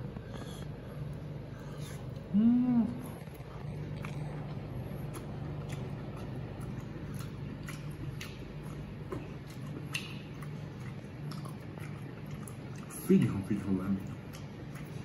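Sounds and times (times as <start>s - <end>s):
steady low hum: 0.0s - 15.0s
person chewing: 3.0s - 15.0s.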